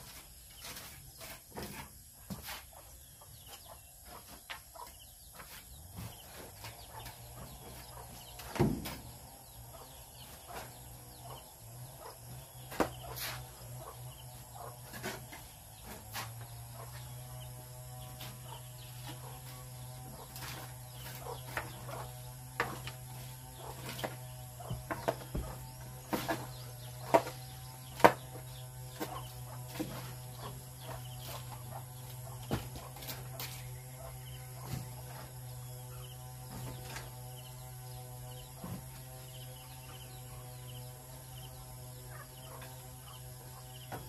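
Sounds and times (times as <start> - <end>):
chickens clucking: 0.0 - 44.0
steady low hum: 0.0 - 44.0.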